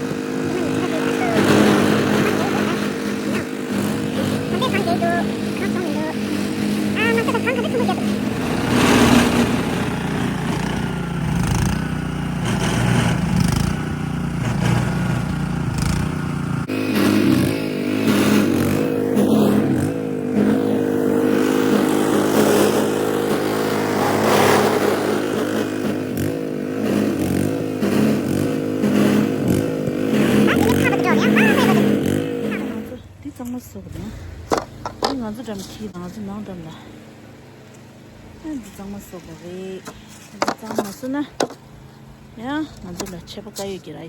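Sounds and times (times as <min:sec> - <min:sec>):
engine running: 0:00.0 - 0:44.0.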